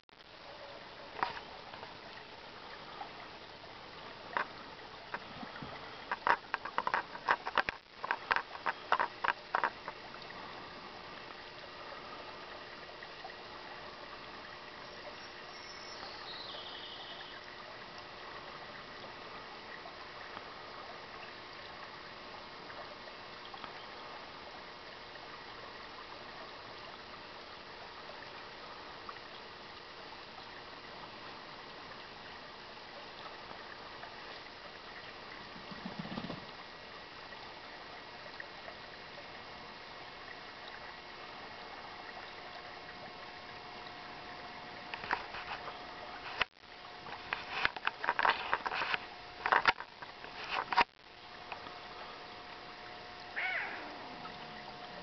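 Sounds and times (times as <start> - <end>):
creek trickling over gravel: 0.3 - 55.0.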